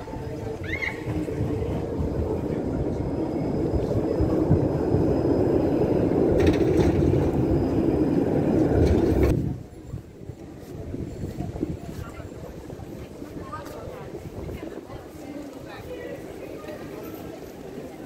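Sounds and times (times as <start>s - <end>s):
tram running on rails: 0.0s - 18.0s.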